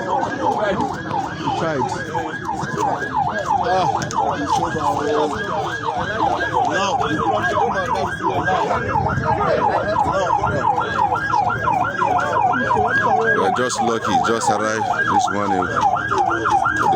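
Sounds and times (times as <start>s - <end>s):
crowd noise: 0.0s - 16.9s
siren yelping: 0.0s - 16.9s.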